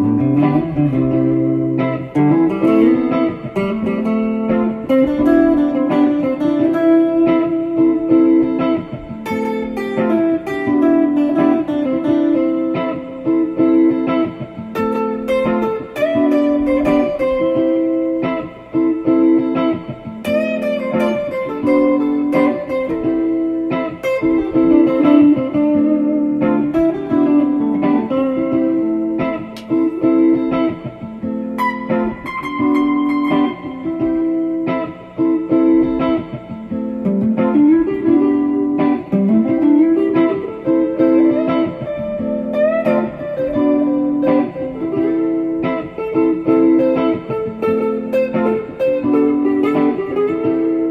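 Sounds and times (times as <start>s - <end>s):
guitar plucking a melody: 0.0s - 50.9s.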